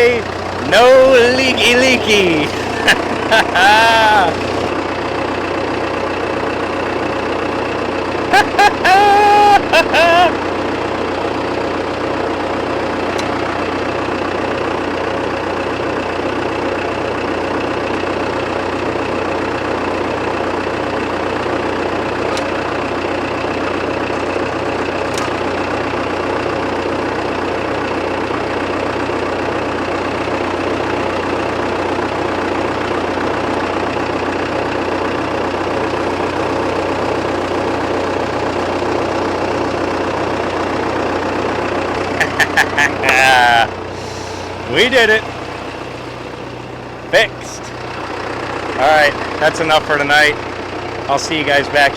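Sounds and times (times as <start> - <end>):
tractor diesel engine idling: 0.0 - 51.9.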